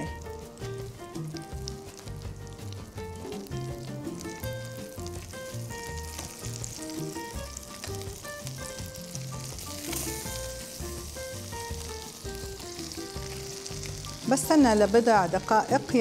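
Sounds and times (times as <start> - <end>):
background music melody: 0.0 - 16.0
patties sizzling in a frying pan: 0.0 - 16.0.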